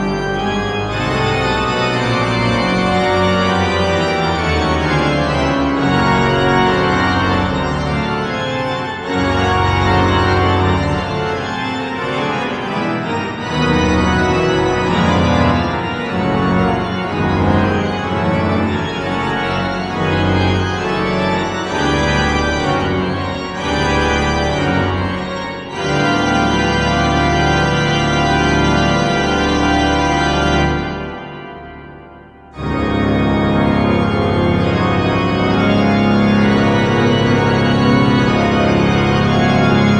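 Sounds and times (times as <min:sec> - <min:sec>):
deep organ pedal bass notes: 0:00.0 - 0:39.9
pipe organ chords: 0:00.0 - 0:39.9.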